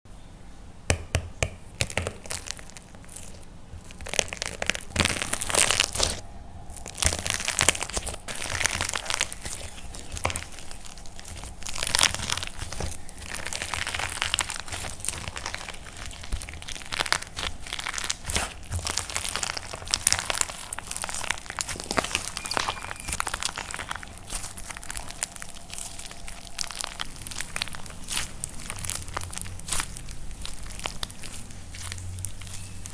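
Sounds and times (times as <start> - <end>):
dry clay crunching and cracking: 1.7 - 32.9.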